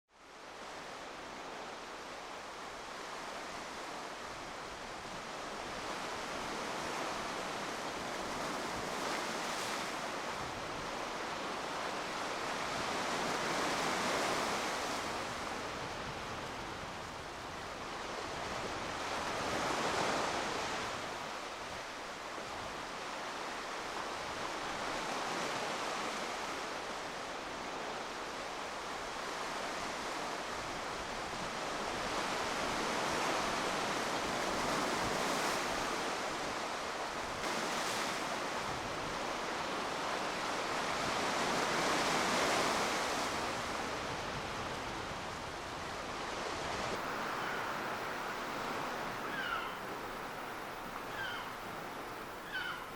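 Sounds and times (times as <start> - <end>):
sea waves washing in: 0.3 - 52.9.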